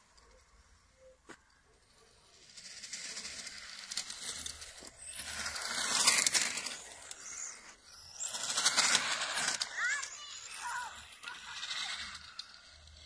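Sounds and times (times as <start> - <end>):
rc car driving on asphalt: 0.0 - 13.0.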